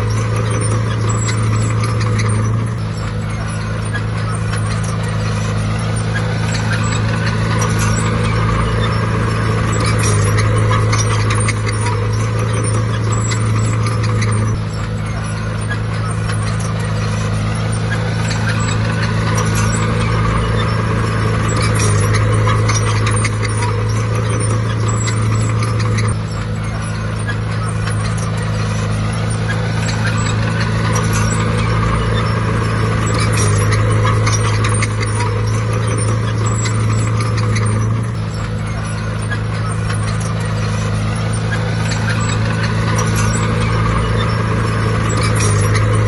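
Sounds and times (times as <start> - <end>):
heavy diesel engine droning: 0.0 - 46.0.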